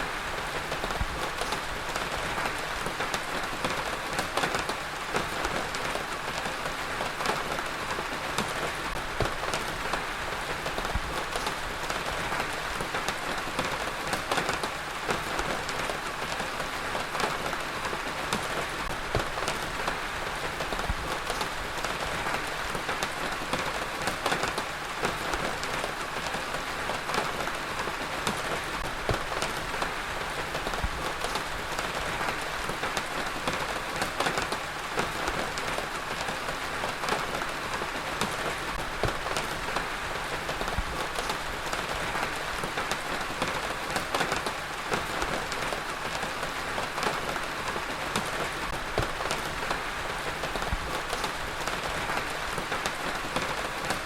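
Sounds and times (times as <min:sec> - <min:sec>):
heavy rain on hard surface: 0:00.0 - 0:54.0.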